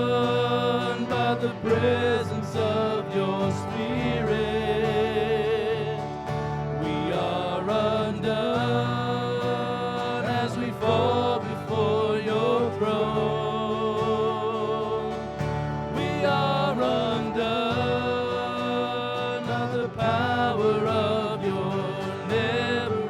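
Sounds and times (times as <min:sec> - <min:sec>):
keyboard and bass accompaniment: 0:00.0 - 0:23.0
person singing long notes: 0:00.0 - 0:23.0.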